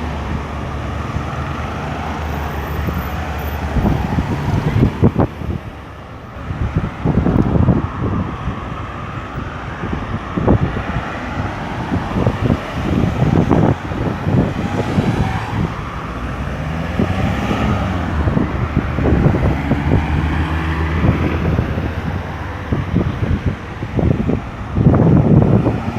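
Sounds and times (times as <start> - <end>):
engine hum: 0.0 - 25.9
road traffic rumble: 0.0 - 25.9.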